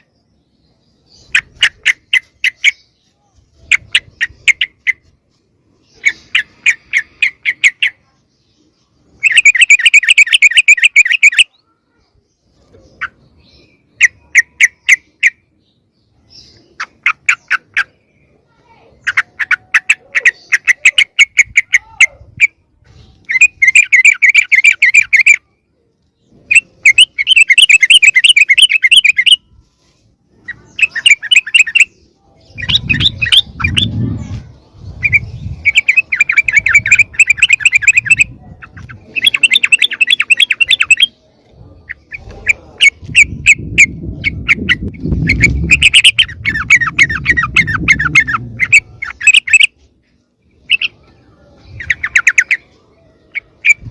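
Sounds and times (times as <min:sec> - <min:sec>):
birds chattering calls: 0:00.0 - 0:29.5, 0:30.1 - 0:53.9.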